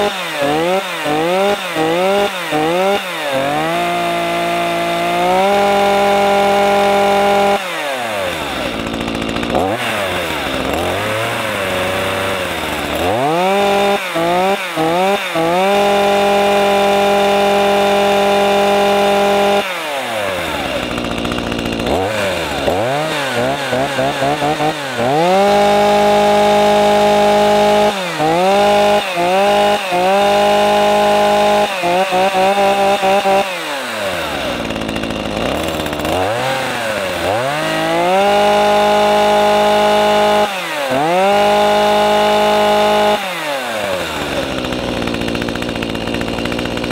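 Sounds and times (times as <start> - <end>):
chainsaw engine idling and revving: 0.0 - 46.9.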